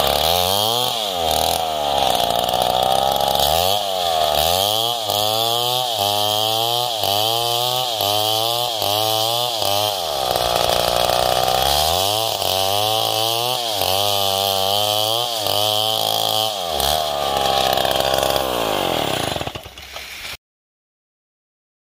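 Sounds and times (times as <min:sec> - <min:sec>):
chainsaw cutting through log: 0:00.0 - 0:20.4.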